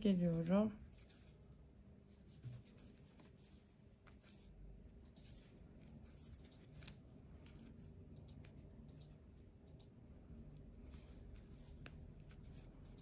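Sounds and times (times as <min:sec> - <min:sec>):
paper yarn rustling: 0:00.0 - 0:09.5, 0:10.3 - 0:13.0.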